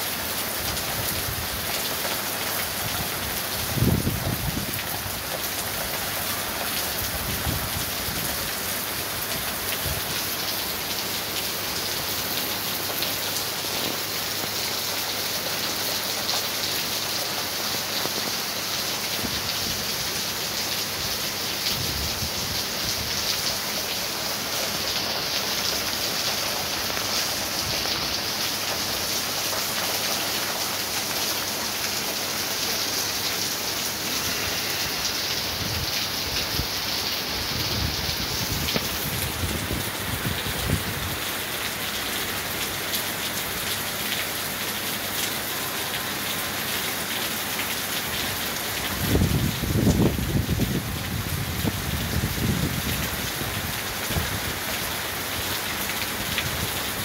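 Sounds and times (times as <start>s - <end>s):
heavy rain pouring on street: 0.0s - 57.0s.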